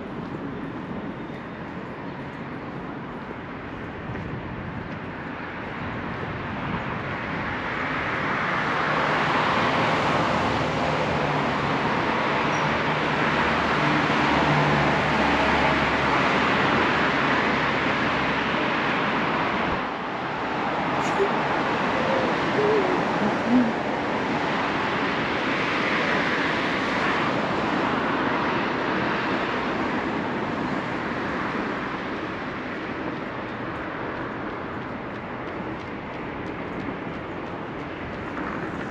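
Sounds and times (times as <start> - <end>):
urban traffic noise: 0.0 - 38.9.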